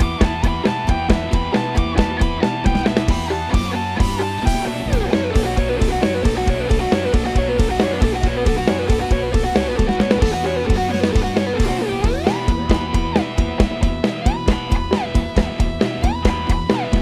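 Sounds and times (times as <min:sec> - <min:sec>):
bass guitar: 0:00.0 - 0:17.0
drum kit: 0:00.0 - 0:17.0
fast lead guitar runs: 0:00.0 - 0:17.0.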